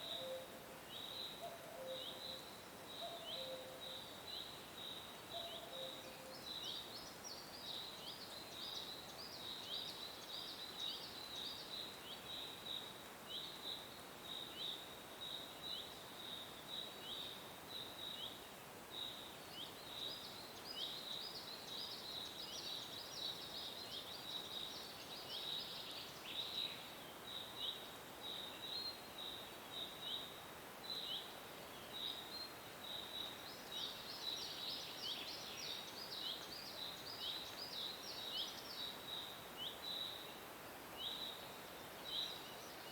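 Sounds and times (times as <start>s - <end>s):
soft even hiss: 6.0s - 42.9s.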